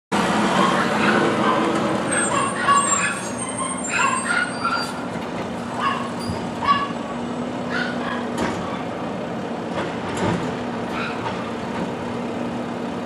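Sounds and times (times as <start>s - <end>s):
garbage truck diesel engine: 0.2s - 13.0s.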